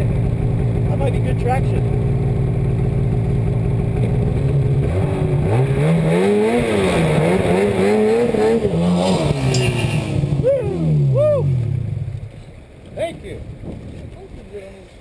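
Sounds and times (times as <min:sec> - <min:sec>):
snowmobile engine revving: 0:00.0 - 0:12.1.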